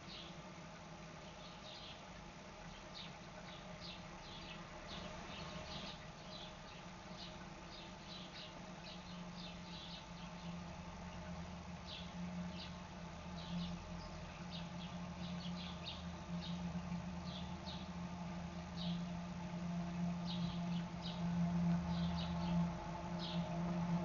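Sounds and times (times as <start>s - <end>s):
low underwater hum: 0.0s - 24.0s.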